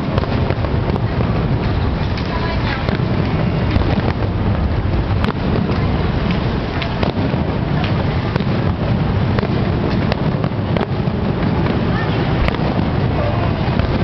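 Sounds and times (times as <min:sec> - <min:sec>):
fireworks crackling: 0:00.0 - 0:14.0
fireworks rumbling bursts: 0:00.0 - 0:14.0.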